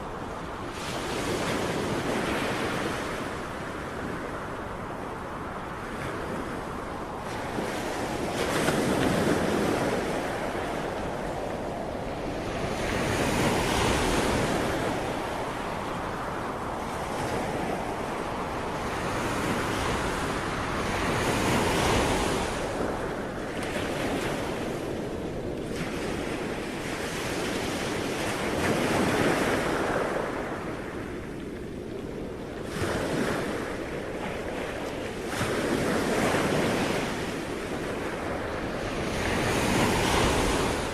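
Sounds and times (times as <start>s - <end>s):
ocean waves breaking on shore: 0.0s - 40.9s
wind noise on microphone: 0.0s - 40.9s.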